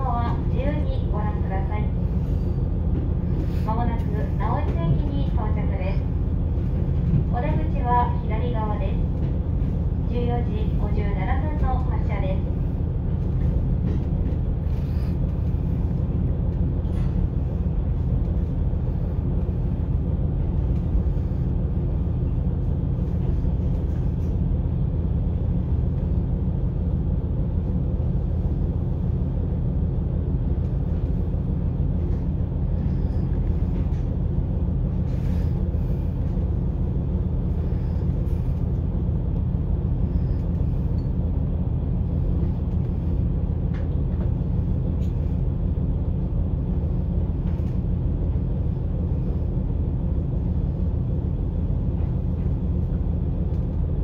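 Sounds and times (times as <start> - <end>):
diesel engine drone: 0.0 - 54.0
train wheels running on rails: 0.0 - 54.0.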